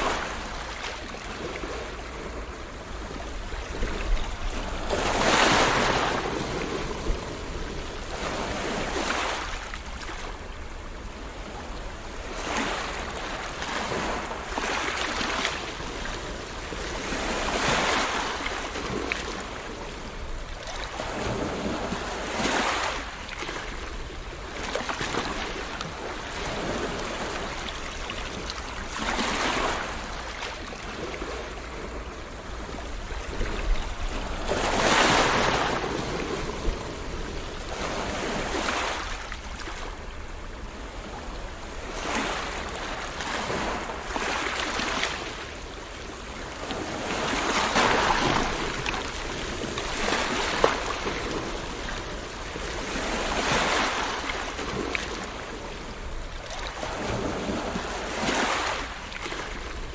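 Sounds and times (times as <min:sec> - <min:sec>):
ocean waves washing in: 0:00.0 - 0:59.9.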